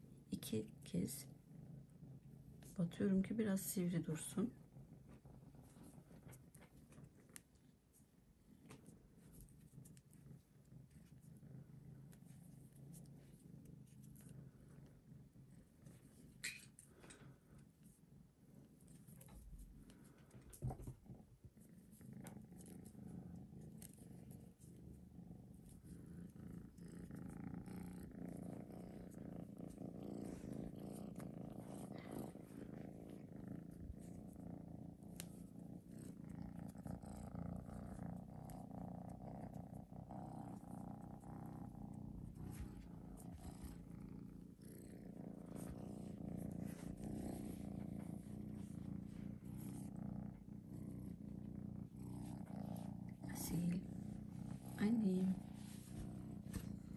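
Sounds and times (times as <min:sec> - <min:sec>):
kitten purring: 0:00.0 - 0:56.9.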